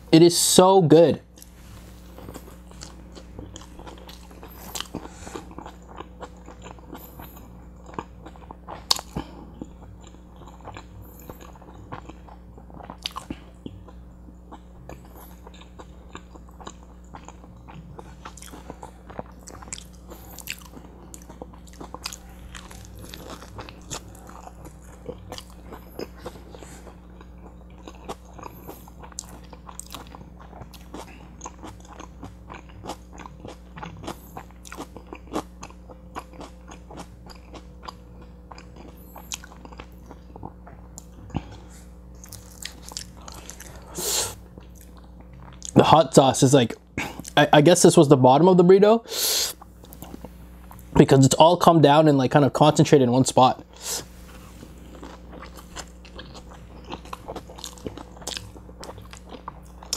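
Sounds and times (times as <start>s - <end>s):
low steady hum: 0.0s - 59.9s
person chewing: 1.2s - 45.9s, 47.0s - 47.5s, 49.2s - 51.0s, 53.6s - 59.9s.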